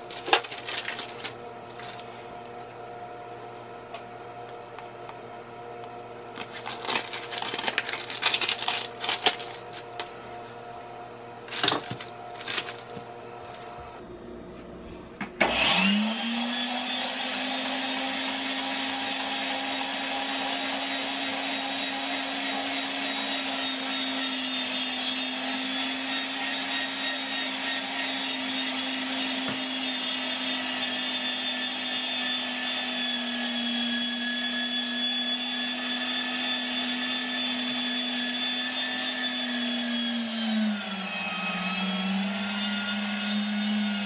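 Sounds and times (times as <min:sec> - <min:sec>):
meat grinder motor whine: 0:00.0 - 0:14.1, 0:15.4 - 0:44.0.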